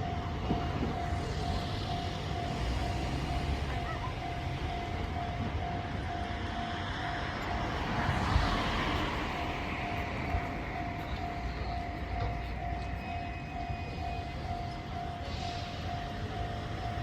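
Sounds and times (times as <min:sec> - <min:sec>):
level crossing warning bell: 0:00.0 - 0:08.5, 0:09.2 - 0:17.0
train rumbling past: 0:00.0 - 0:17.0.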